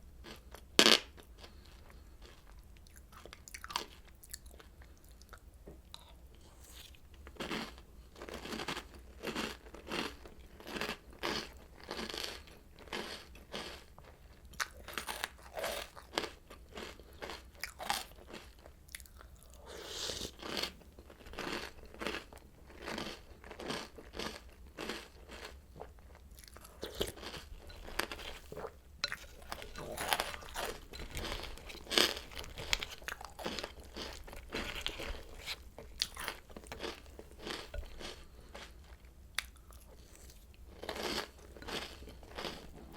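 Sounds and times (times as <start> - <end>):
chewing crunchy cereal: 0.2 - 42.9.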